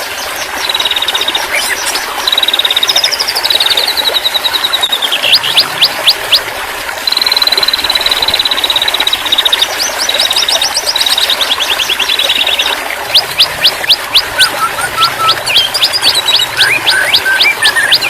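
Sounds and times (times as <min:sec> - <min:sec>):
songbird singing trills: 0:00.6 - 0:06.4, 0:07.0 - 0:18.0.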